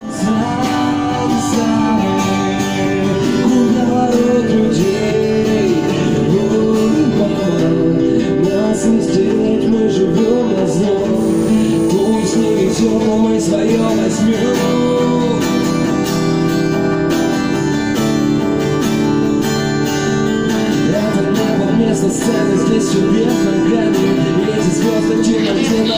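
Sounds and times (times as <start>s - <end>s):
person singing: 0.0s - 16.2s, 20.7s - 25.9s
acoustic guitar strumming: 0.0s - 25.9s.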